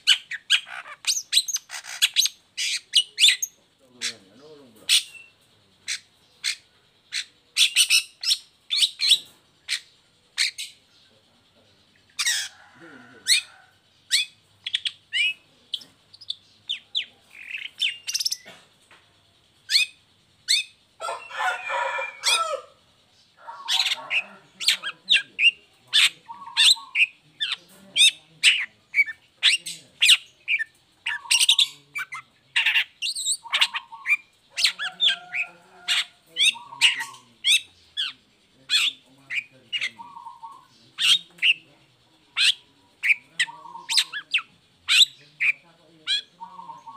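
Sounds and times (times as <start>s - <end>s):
harsh bird chattering: 0.0s - 46.9s.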